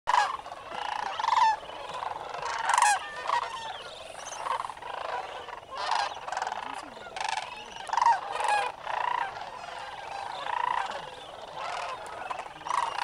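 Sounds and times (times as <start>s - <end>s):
cranes calling: 0.1s - 13.0s.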